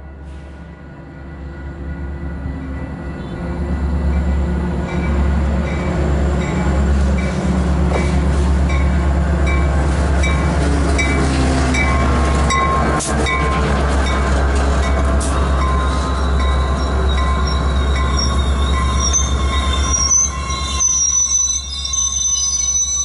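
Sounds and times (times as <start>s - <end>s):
diesel locomotive engine drone: 0.0s - 23.0s
locomotive bell dinging: 4.0s - 23.0s.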